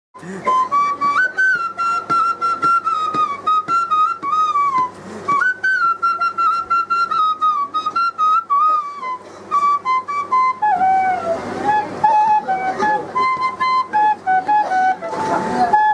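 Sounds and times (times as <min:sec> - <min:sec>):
bamboo flute melody: 0:00.2 - 0:15.9.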